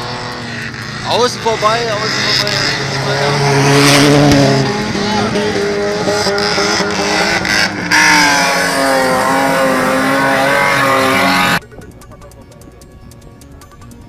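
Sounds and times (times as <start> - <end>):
racing car engines: 0.0 - 11.6.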